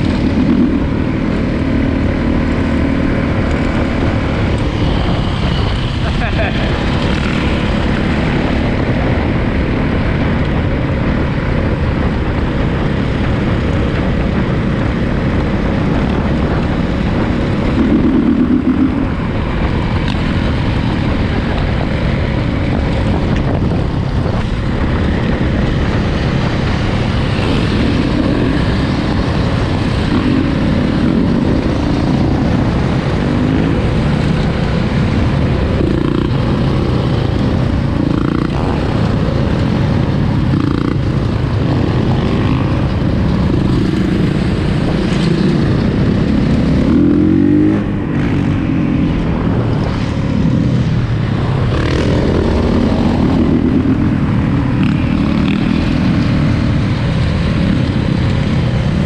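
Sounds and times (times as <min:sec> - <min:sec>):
dirt bike engine running: 0:00.0 - 0:59.0
wind noise: 0:00.0 - 0:59.0.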